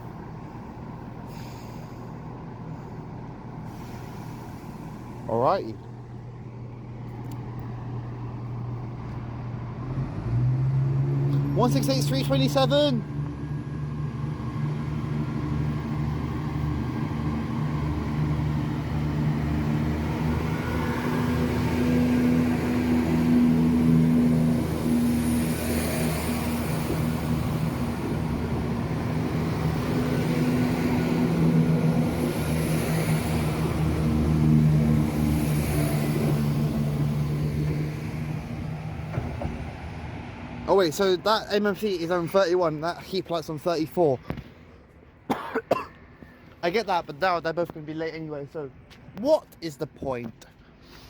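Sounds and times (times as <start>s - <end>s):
diesel train engines humming: 0.0s - 51.0s.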